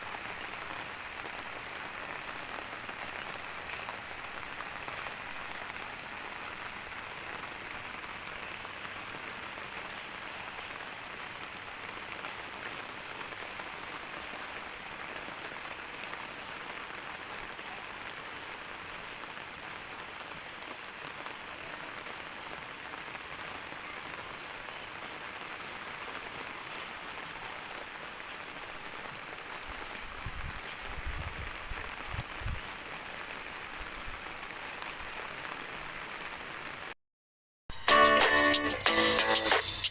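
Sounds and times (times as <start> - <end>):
rain hissing on surfaces: 0.0 - 37.0.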